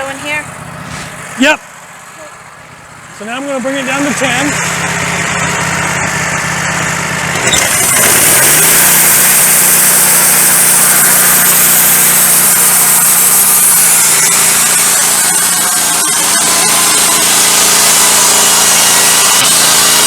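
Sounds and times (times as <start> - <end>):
sawmill engine revving: 0.0 - 20.0.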